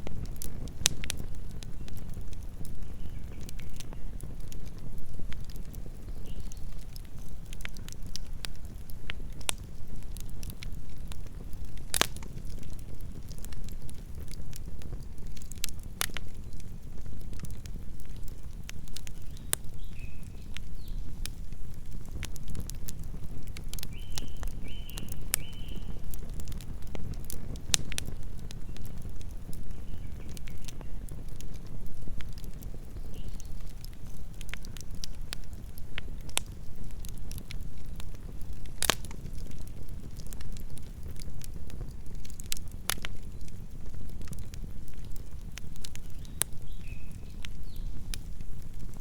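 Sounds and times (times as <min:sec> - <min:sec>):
campfire crackling and popping: 0:00.0 - 0:49.0.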